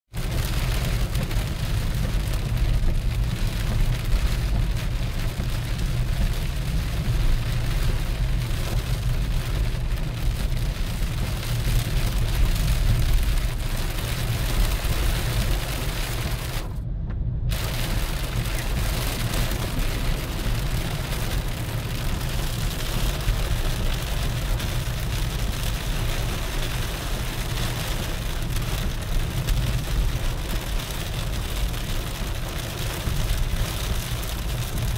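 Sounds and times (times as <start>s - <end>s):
heavy rain on car roof: 0.1s - 16.9s, 17.5s - 34.9s
car rumbling on wet road: 0.1s - 34.9s.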